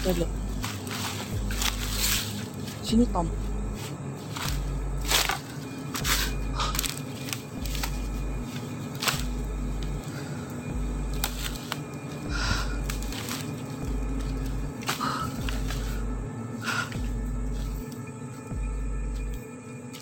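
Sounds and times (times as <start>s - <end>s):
crackles of dry leaves: 0.0s - 20.0s
low pulsing background music: 0.0s - 20.0s
steady drone: 0.0s - 20.0s.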